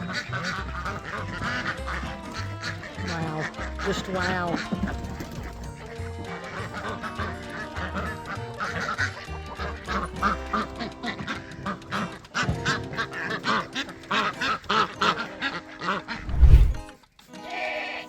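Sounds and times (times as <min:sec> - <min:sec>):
repeated animal calls: 0:00.0 - 0:16.8
background music: 0:00.0 - 0:18.0.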